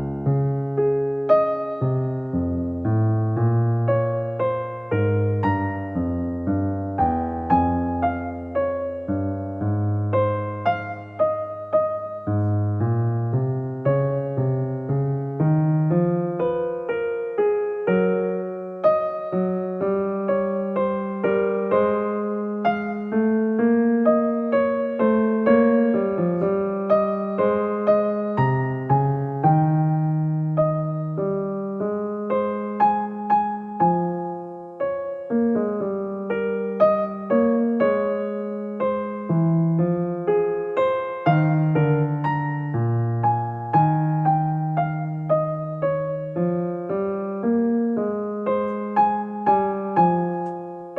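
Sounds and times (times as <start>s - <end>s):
slow piano melody: 0.0s - 50.9s.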